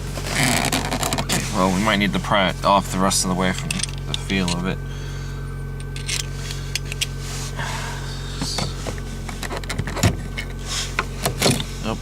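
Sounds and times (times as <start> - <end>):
heater blower motor hum: 0.0 - 12.0.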